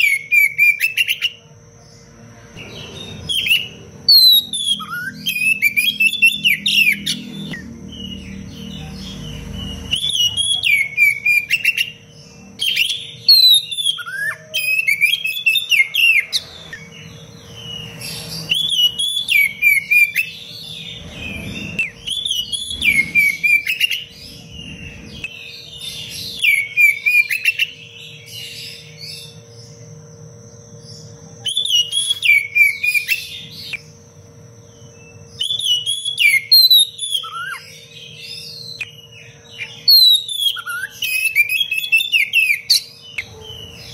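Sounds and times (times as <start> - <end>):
bird singing whistled phrases: 0.0 - 1.4, 3.0 - 16.9, 17.6 - 28.2, 31.4 - 33.8, 35.4 - 43.7.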